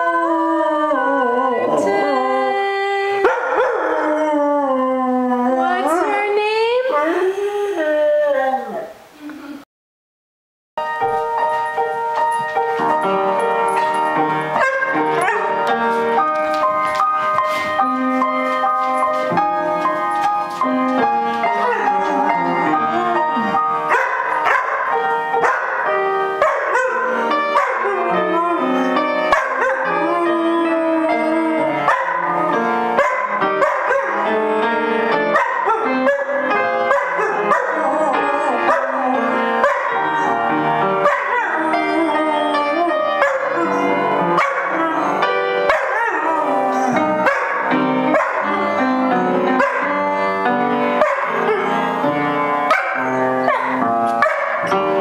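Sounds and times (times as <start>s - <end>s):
upright piano playing: 0.0s - 6.9s, 10.8s - 55.0s.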